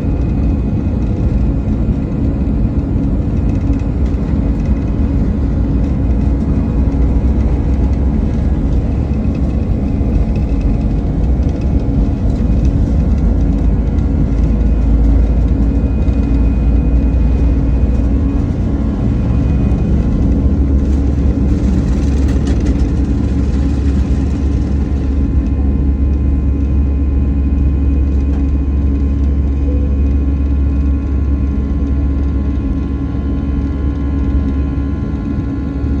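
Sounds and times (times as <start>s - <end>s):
jet engines roaring: 0.0s - 29.5s.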